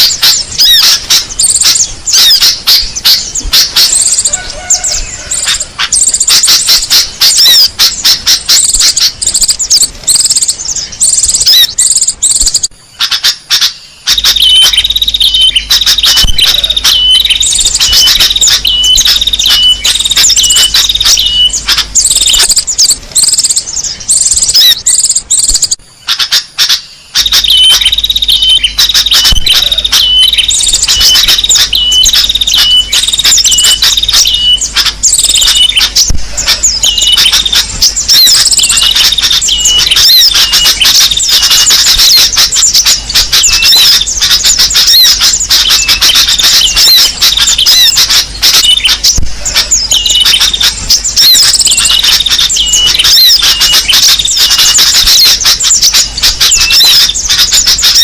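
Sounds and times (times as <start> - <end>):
short repeated bird call: 0.0 - 58.0
songbirds chirping and twittering: 0.0 - 58.0.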